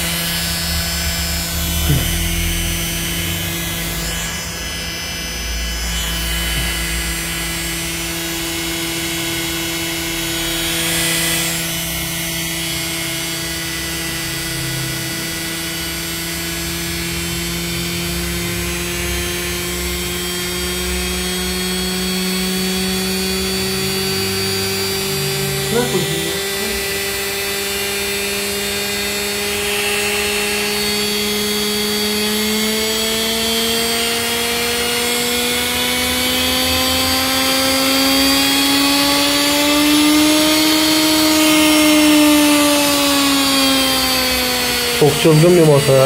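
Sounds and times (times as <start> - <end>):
electric motor whine rising in pitch: 0.0 - 46.0.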